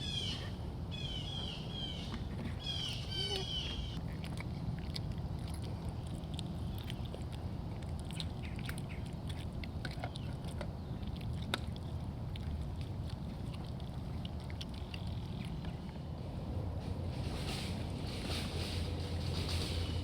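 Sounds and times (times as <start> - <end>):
animal chewing meat: 2.2 - 20.0.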